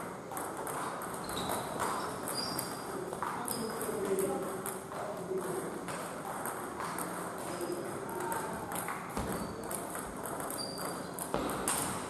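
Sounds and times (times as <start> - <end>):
table tennis balls ticking: 0.0 - 12.0.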